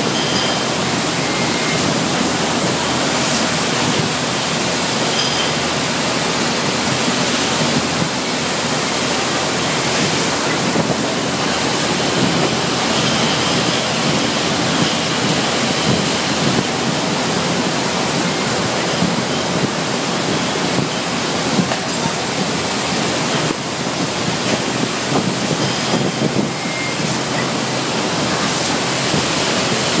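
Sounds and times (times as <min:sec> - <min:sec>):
packing machinery running: 0:00.0 - 0:30.0.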